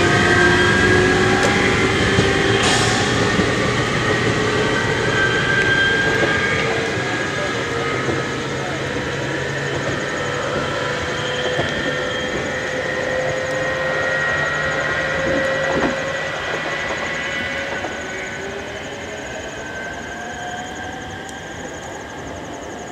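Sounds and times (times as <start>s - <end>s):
electric train motor whine: 0.0s - 22.9s
train wheels rumbling on rails: 0.0s - 22.9s.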